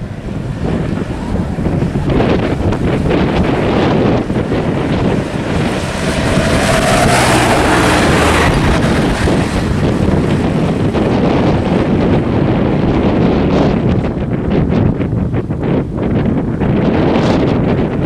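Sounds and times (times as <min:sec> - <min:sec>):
motorbikes passing: 0:00.0 - 0:18.0
trucks passing: 0:00.0 - 0:18.0
wind buffeting microphone: 0:00.0 - 0:18.0.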